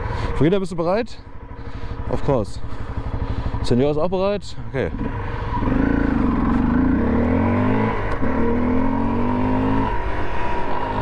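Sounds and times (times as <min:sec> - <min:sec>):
motorcycle engine accelerating: 0:00.8 - 0:11.0.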